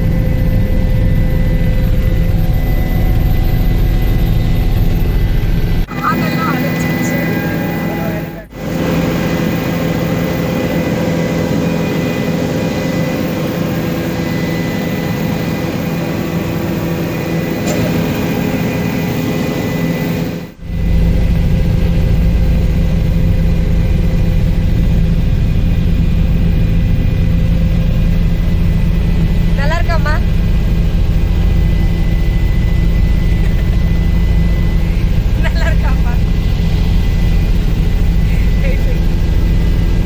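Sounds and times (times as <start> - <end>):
helicopter engine and rotor drone: 0.0 - 40.0.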